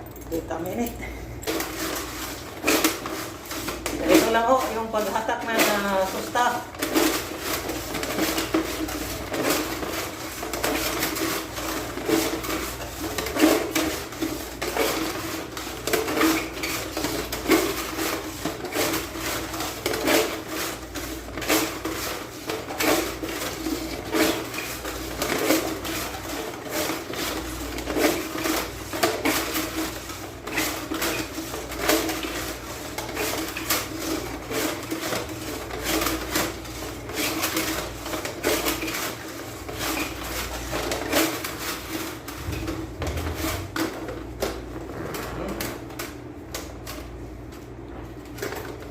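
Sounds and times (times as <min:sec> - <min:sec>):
fish tape clattering through conduit: 0:01.4 - 0:44.7.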